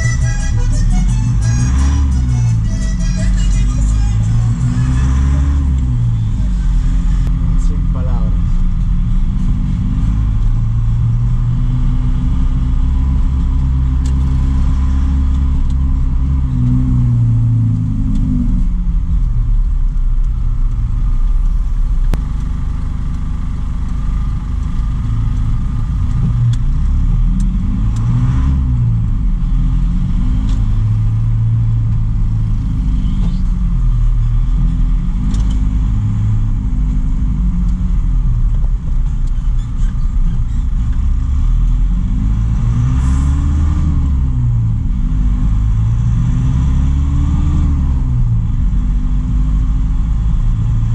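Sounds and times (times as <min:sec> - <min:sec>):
truck engine running: 0:00.0 - 0:46.2.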